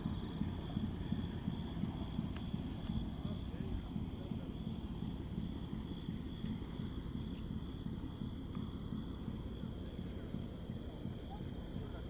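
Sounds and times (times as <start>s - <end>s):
insects chirping: 0.0s - 12.0s
low rumble: 0.0s - 12.0s.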